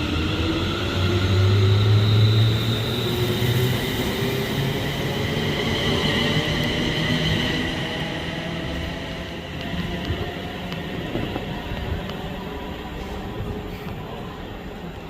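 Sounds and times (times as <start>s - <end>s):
train low drone: 0.0s - 15.0s.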